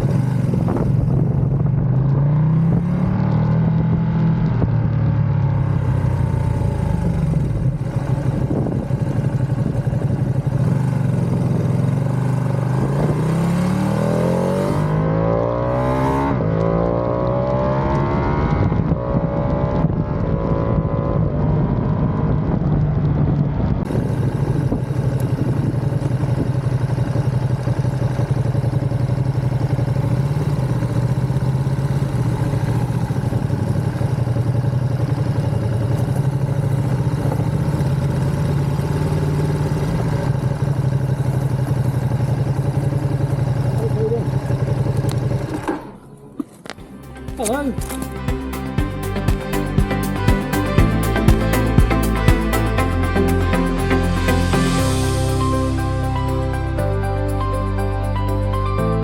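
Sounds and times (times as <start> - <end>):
motorcycle engine revving: 0.0 - 58.2.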